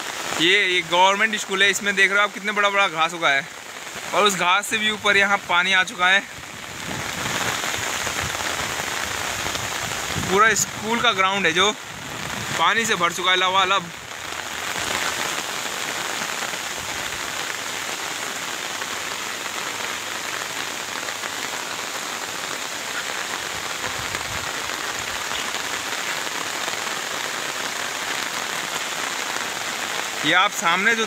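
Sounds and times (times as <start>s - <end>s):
heavy rain falling on water: 0.0s - 31.0s.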